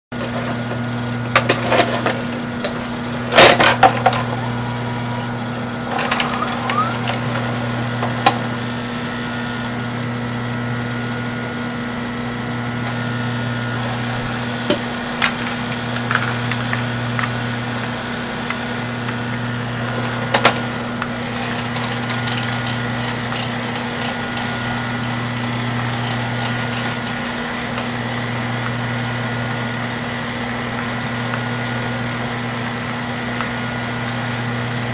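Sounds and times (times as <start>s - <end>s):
mechanism hum: 0.1s - 34.9s.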